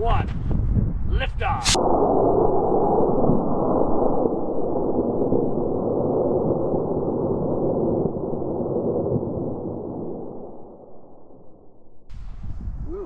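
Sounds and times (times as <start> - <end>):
wind buffeting microphone: 0.0 - 11.3, 12.1 - 13.0.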